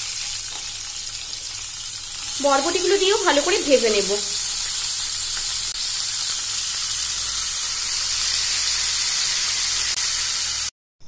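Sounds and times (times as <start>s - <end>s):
beans frying in hot oil: 0.0s - 10.7s.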